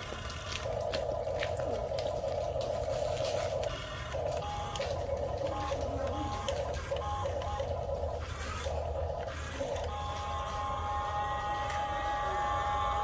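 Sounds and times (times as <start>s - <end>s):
small gear motors whirring: 0.0s - 13.0s
steady low hum: 0.0s - 13.0s.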